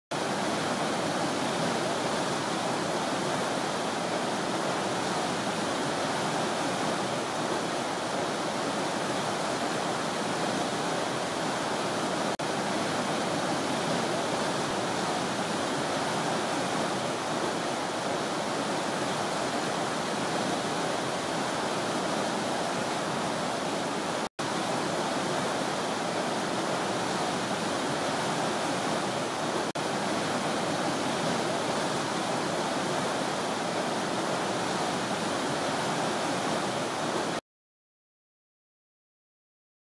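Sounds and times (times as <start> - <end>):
river rushing over rocks: 0.2 - 37.4.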